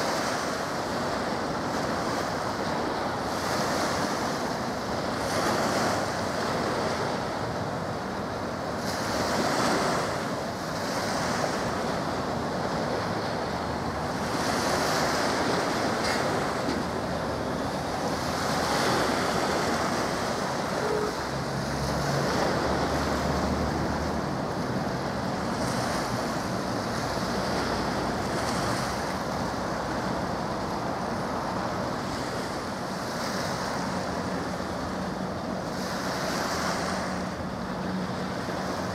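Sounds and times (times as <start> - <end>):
waves: 0.0 - 38.9
wind: 0.0 - 38.9.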